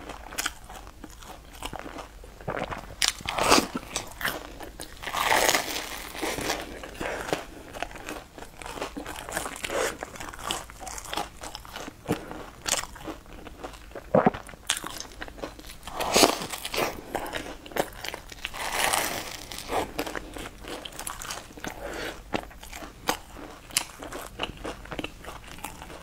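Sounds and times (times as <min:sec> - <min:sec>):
crunching bites of fried food: 0:00.0 - 0:26.0.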